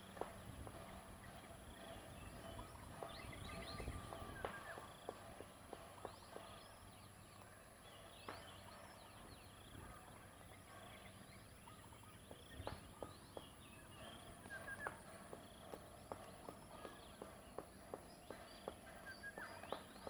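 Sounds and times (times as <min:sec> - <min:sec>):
bird chirping: 0:00.0 - 0:05.2, 0:06.0 - 0:20.0.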